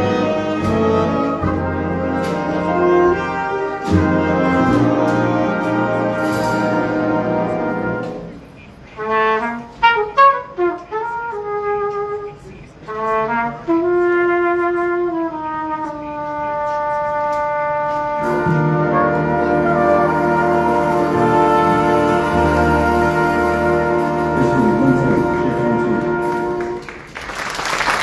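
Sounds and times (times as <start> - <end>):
solo horn playing: 0.0 - 27.0
jazz band playing: 0.0 - 27.8.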